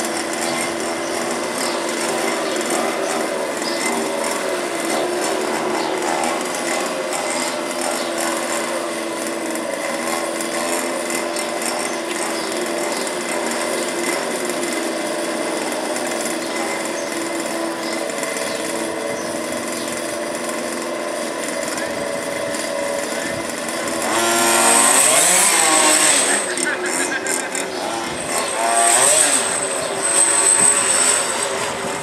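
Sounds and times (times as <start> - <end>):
model car engines buzzing: 0.0 - 32.0.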